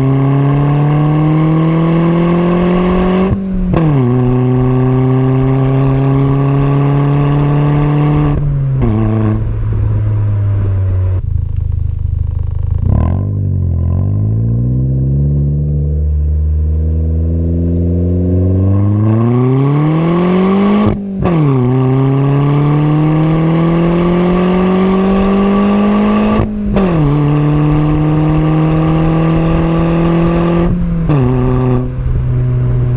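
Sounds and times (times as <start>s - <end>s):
car engine accelerating and shifting: 0.0s - 32.9s.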